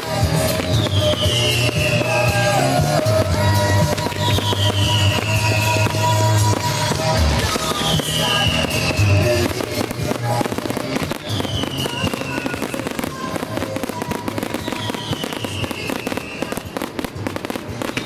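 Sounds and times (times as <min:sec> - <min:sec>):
fireworks crackling and popping: 0:00.0 - 0:18.0
music playing: 0:00.0 - 0:18.0.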